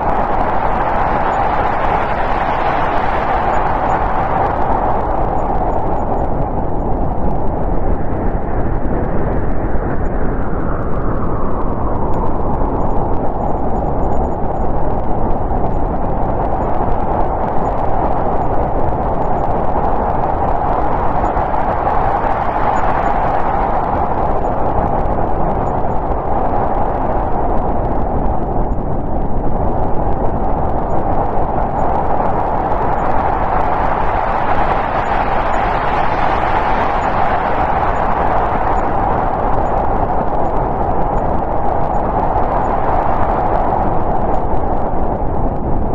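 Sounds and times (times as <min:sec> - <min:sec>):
wind blowing in gusts: 0:00.0 - 0:45.9.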